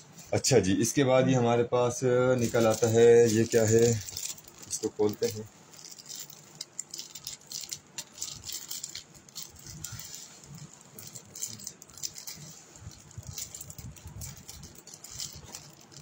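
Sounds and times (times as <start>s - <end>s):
plastic packaging crinkling: 2.3s - 16.0s.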